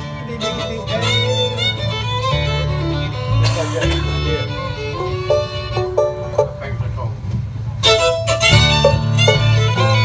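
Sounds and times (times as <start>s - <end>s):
banjo: 0.0s - 10.0s
fiddle melody: 0.0s - 10.0s
walking bass line: 0.0s - 10.0s.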